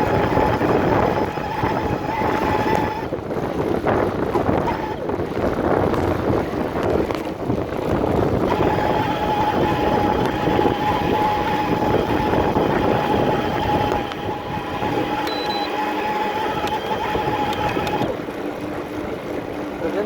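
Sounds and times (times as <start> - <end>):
e-bike motor whining: 0.0 - 6.1, 8.0 - 18.4
wind noise: 0.0 - 19.8.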